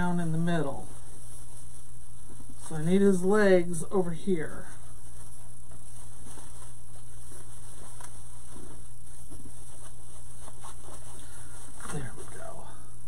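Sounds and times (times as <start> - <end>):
electrical hum and hiss: 0.0 - 13.0
rustling and crinkling of ribbon: 0.0 - 13.0.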